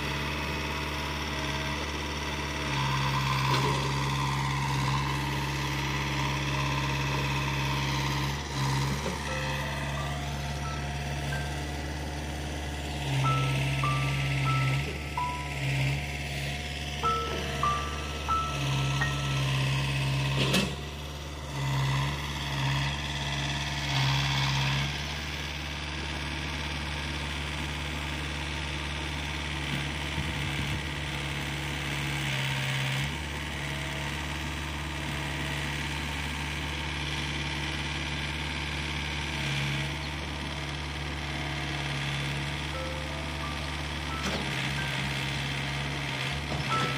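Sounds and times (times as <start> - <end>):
heavy machinery diesel engine: 0.0 - 46.9.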